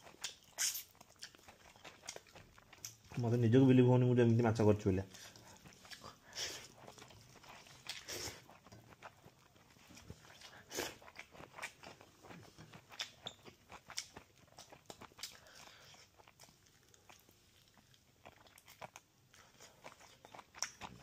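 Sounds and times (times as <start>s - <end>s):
chewing and mouth clicks: 0.0s - 3.4s, 5.1s - 21.0s.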